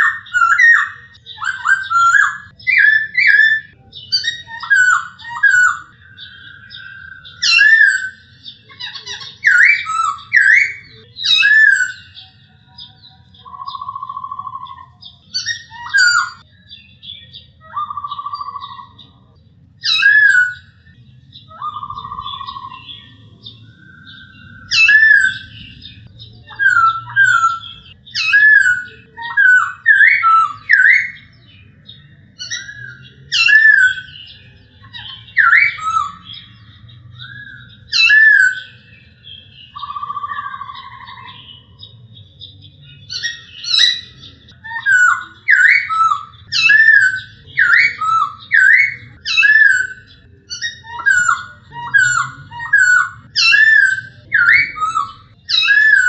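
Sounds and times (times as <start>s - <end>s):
bird whistled song: 0.0s - 56.0s.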